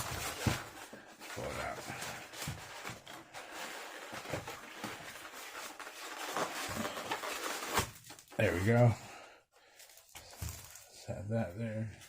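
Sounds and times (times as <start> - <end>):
packaging rustling and scraping: 0.0 - 8.9, 9.6 - 11.1.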